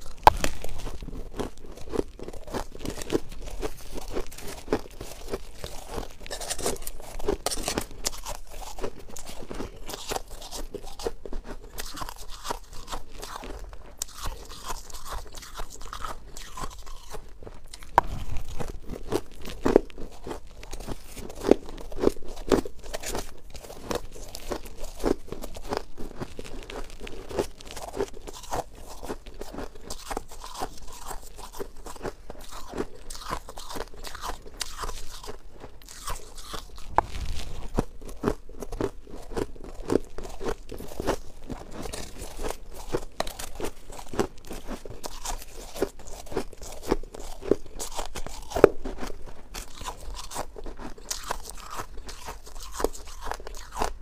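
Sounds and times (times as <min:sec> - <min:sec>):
mouth crunching shaved ice: 0:00.0 - 0:54.0.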